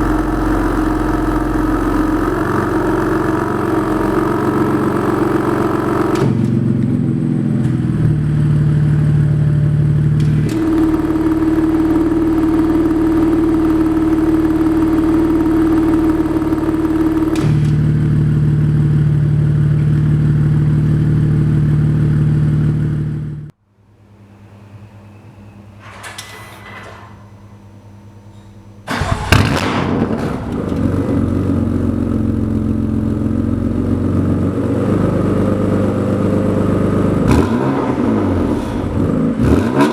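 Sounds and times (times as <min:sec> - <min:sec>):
exhaust bang: 0:00.0 - 0:23.5, 0:28.8 - 0:39.9
car engine running: 0:00.0 - 0:23.6, 0:28.8 - 0:39.9.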